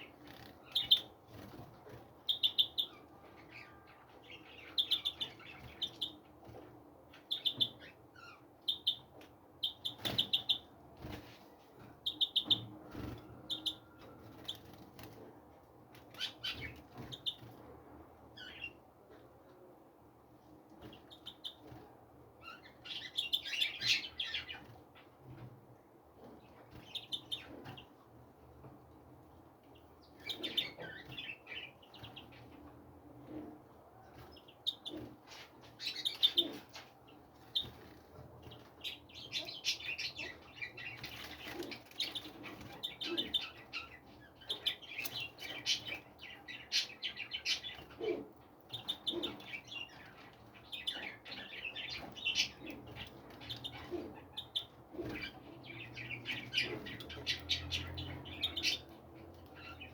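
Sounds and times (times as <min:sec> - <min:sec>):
small birds chirping: 0:00.0 - 0:17.7, 0:18.3 - 0:19.6, 0:20.7 - 0:59.9.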